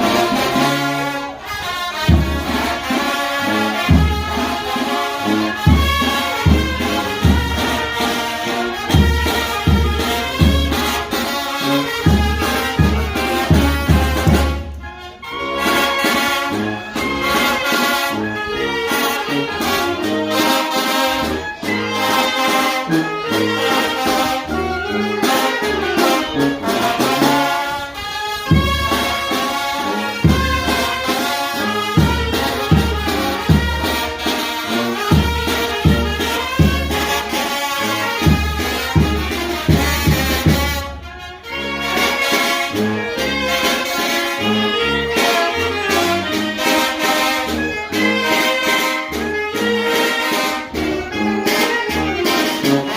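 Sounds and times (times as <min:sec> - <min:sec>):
brass band playing: 0:00.0 - 0:52.9
trumpets and trombones melody: 0:00.0 - 0:52.9.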